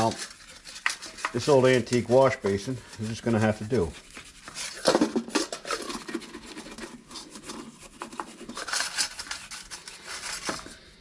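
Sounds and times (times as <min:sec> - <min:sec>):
scratchy scrubbing of parts: 0:00.0 - 0:11.0.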